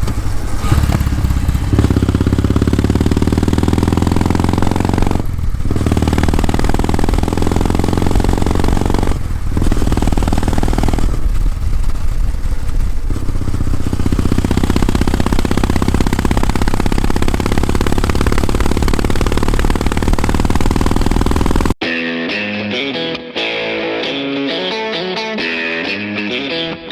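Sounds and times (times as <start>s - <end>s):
motorcycle engine and exhaust: 0.0s - 21.8s.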